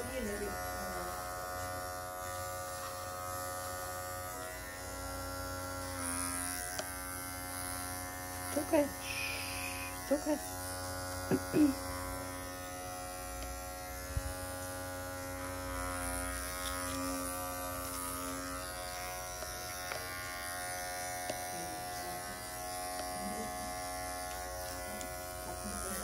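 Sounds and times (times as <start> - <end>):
electric clippers buzzing: 0.0 - 26.0.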